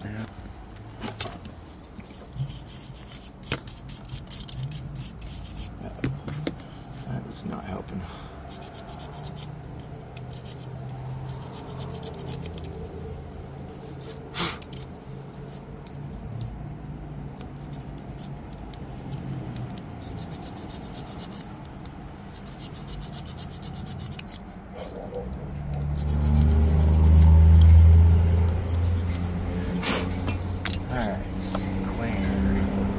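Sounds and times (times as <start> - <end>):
metal parts being sanded or filed: 1.6 - 16.6, 17.4 - 32.9.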